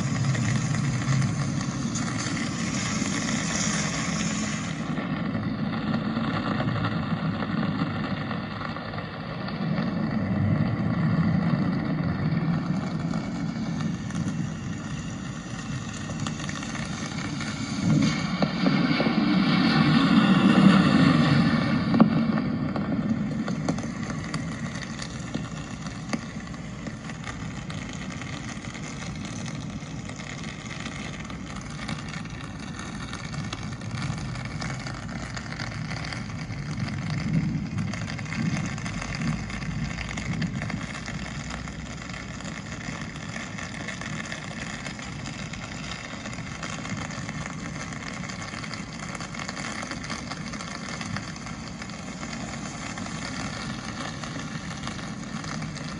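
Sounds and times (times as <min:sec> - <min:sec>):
low traffic rumble: 0:00.0 - 0:55.9
rain hiss: 0:00.0 - 0:55.9.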